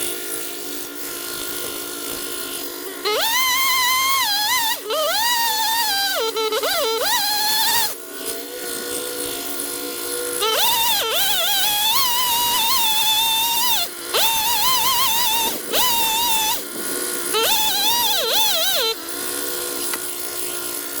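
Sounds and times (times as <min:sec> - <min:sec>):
chainsaw whining at high speed: 0:00.0 - 0:21.0.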